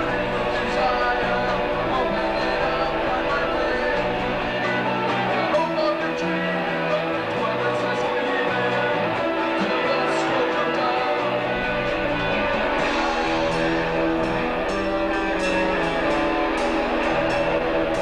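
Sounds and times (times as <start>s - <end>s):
electric guitar lead: 0.0s - 18.0s
live rock band instrumental: 0.0s - 18.0s.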